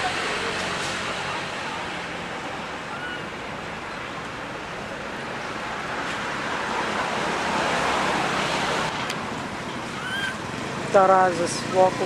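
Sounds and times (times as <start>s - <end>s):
rushing forest background noise: 0.0s - 12.0s.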